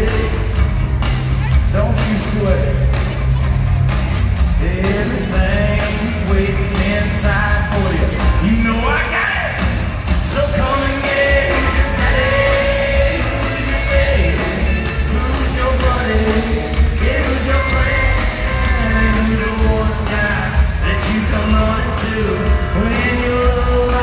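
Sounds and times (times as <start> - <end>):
male lead vocal: 0.0 - 0.7, 1.6 - 3.0, 4.5 - 24.0
drum beat: 0.0 - 24.0
live country band playing: 0.0 - 24.0.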